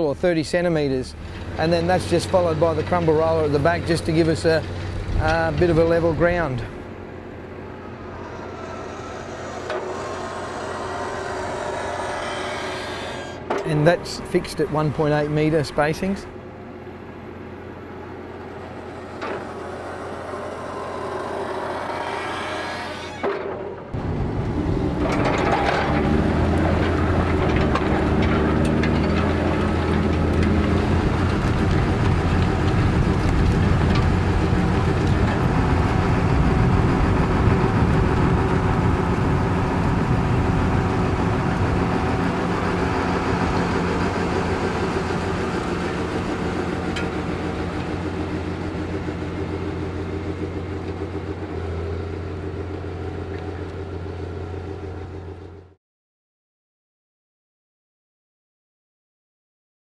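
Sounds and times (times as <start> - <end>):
tractor engine running under load: 0.0 - 22.4, 23.9 - 55.7.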